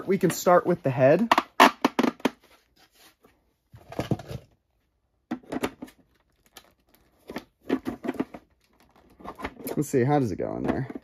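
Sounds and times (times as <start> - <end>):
plastic parts rubbing and knocking: 0.0 - 4.6, 5.2 - 11.0.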